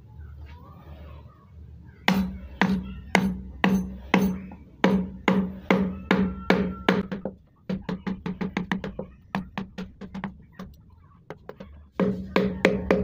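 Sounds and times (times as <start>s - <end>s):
mallet tapping chisel: 2.1s - 13.0s.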